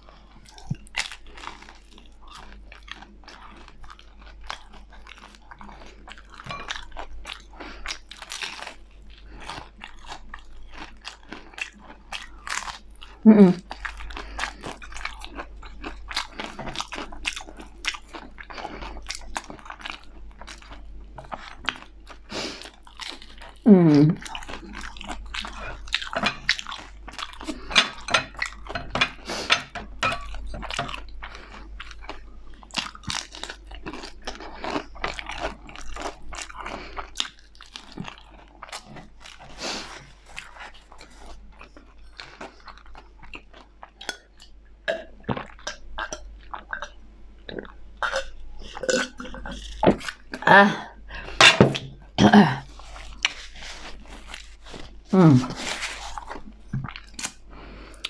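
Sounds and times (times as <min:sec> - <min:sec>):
crunching and chewing crisp food: 0:00.0 - 0:58.0.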